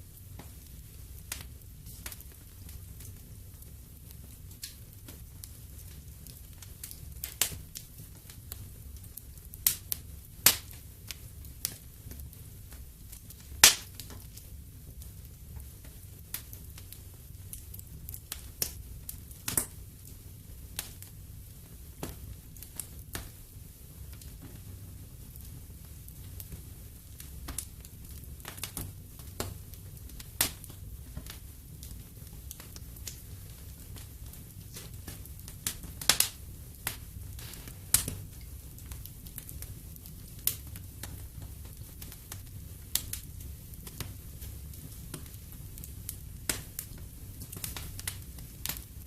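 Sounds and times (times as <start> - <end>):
fireplace wood fire crackling: 0.0 - 49.0.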